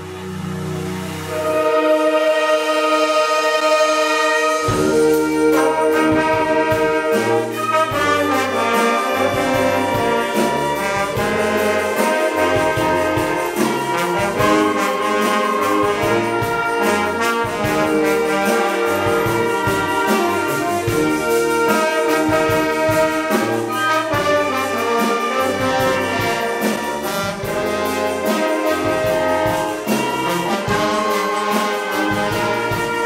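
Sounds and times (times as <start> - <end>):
wind band playing: 0.0 - 33.0.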